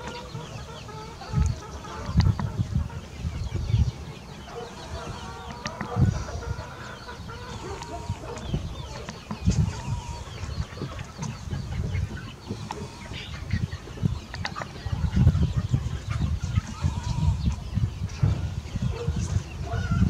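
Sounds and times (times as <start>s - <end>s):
chickens clucking: 0.0s - 20.0s
low rumbling microphone bursts: 2.1s - 20.0s.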